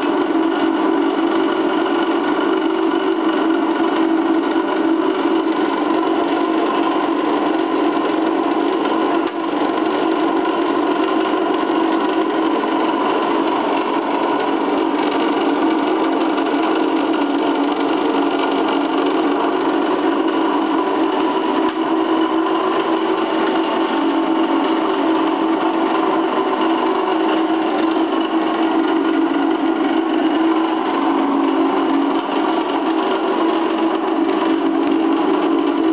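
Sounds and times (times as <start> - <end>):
polishing machine humming: 0.0 - 35.9.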